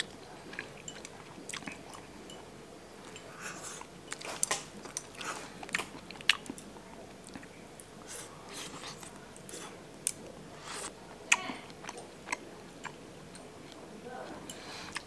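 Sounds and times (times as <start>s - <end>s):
person chewing food: 0.0s - 13.9s, 14.5s - 15.0s.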